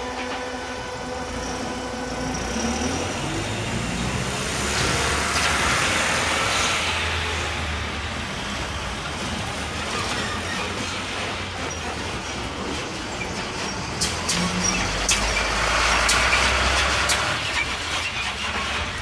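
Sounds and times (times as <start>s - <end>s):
cars and trucks passing: 0.0s - 19.0s.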